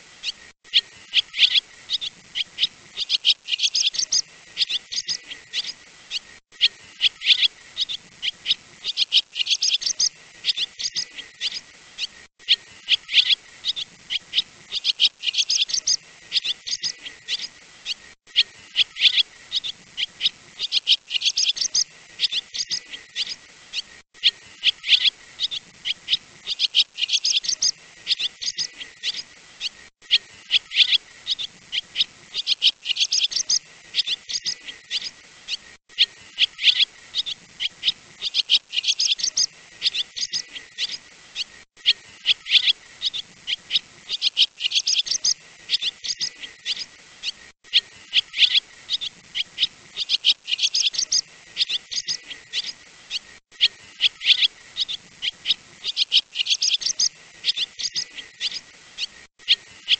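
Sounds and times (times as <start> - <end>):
swallow twittering chirps: 0.0 - 59.9.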